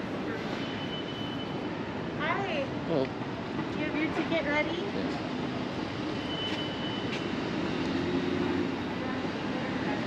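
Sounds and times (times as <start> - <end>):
passing vehicles: 0.0 - 10.0.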